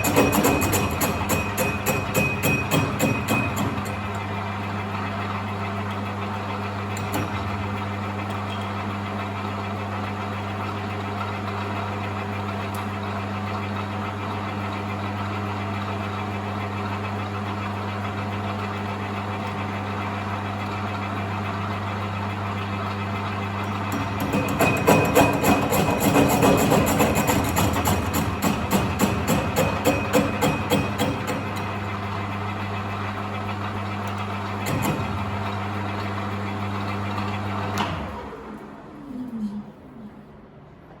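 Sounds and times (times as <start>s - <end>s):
metal lathe motor humming: 0.0s - 38.6s.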